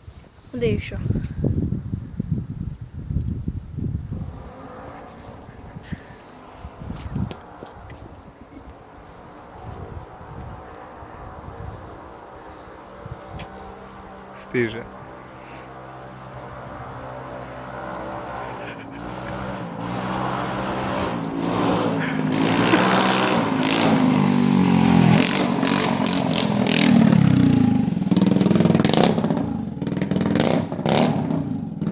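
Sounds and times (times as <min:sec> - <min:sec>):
exhaust crackles: 0:03.8 - 0:31.9
scooter engine revving: 0:04.1 - 0:31.9.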